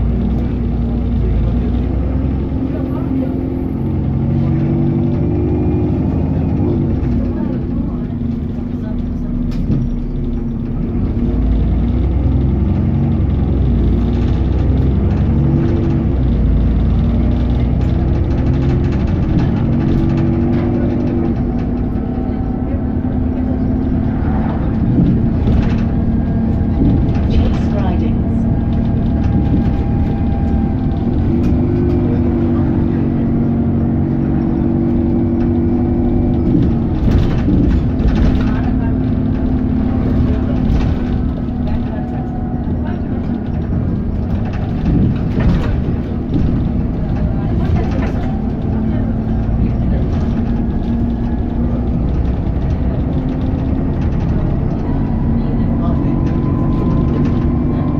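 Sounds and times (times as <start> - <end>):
bus engine rumble: 0.0 - 57.9.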